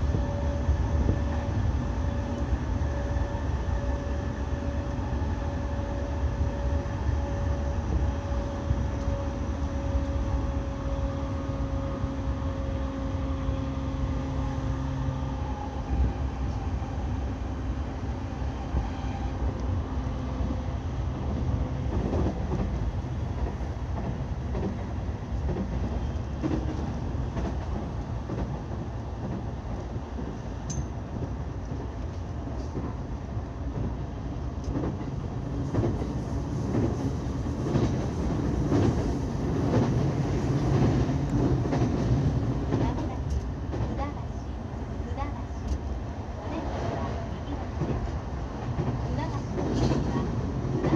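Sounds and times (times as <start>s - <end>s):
train rumble: 0.0s - 50.9s.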